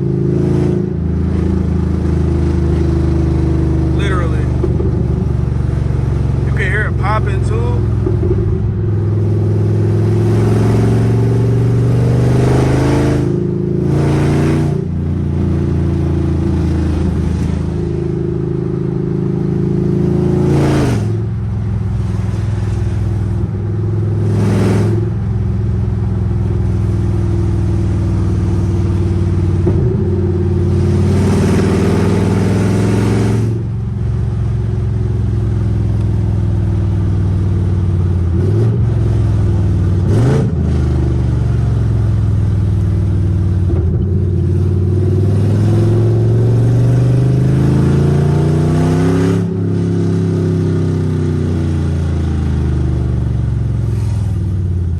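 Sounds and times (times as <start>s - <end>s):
loud car engine driving: 0.0s - 54.9s.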